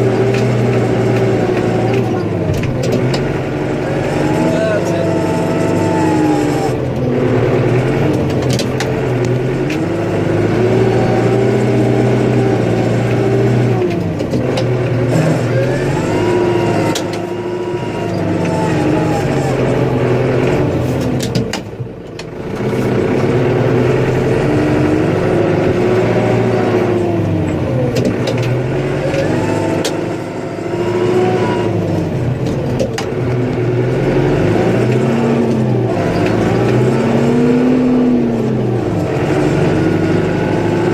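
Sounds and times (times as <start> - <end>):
snow plow engine revving: 0.0 - 40.9.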